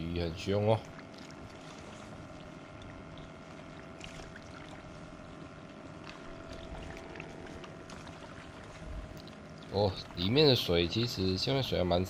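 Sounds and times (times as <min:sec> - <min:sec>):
faint steady hum: 0:00.0 - 0:12.0
water lapping at shore: 0:00.4 - 0:11.3.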